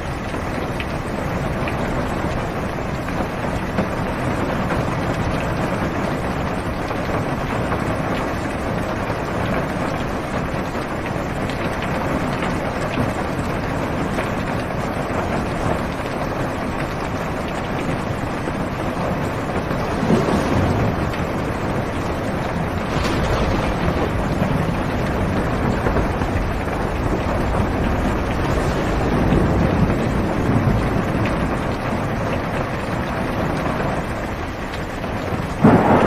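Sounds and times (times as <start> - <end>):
heavy rain on car roof: 0.0 - 36.0
low thunder rumble: 0.0 - 36.0.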